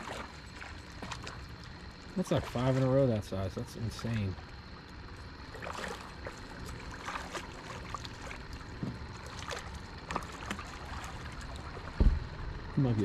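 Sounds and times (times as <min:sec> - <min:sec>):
fish splashing at water surface: 0:00.0 - 0:12.3
flowing water rushing: 0:00.0 - 0:13.0.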